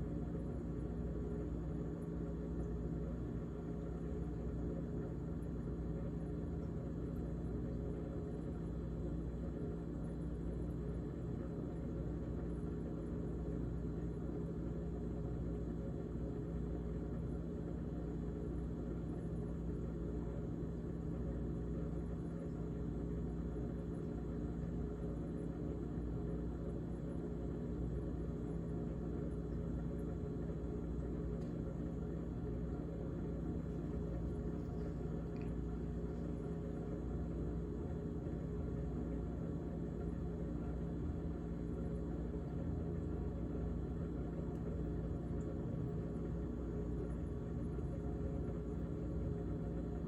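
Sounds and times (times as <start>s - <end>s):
refrigerator humming: 0.0s - 50.0s.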